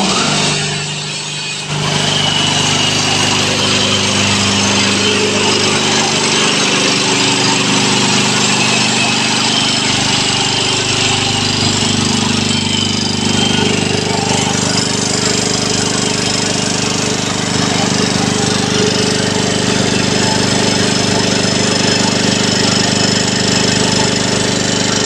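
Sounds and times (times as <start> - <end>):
air compressor pulsing: 0.0 - 25.0.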